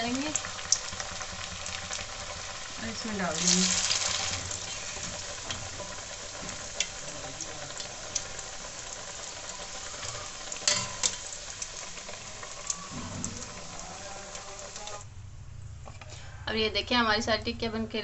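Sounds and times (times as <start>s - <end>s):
food deep-frying in oil: 0.0s - 15.1s.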